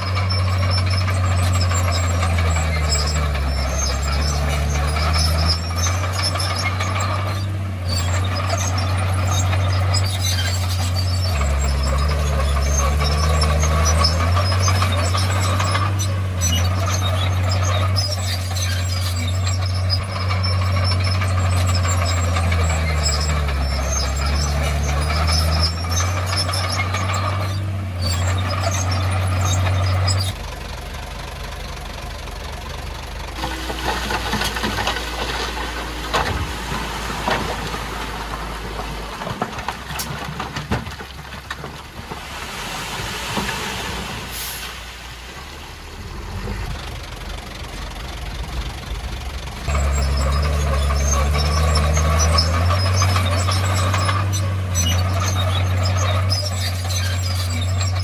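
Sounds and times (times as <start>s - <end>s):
clanks and rattles: 0.0s - 42.2s, 46.6s - 58.0s
bulldozer diesel engine droning: 0.0s - 58.0s.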